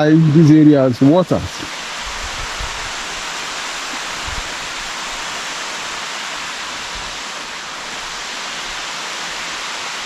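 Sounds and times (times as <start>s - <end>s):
water rushing through dam outlet: 0.0s - 10.0s.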